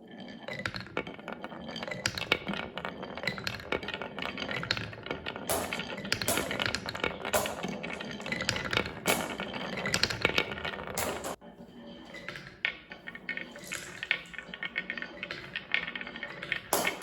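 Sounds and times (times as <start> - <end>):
marbles rattling on wooden track: 0.2 - 11.4, 12.0 - 17.0.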